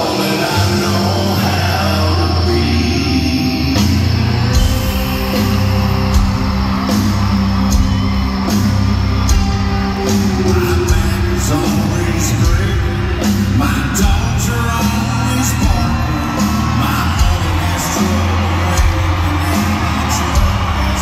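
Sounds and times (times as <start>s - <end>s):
crowd whooping: 0.0s - 21.0s
live country rock band: 0.0s - 21.0s
pounding drums: 3.8s - 21.0s.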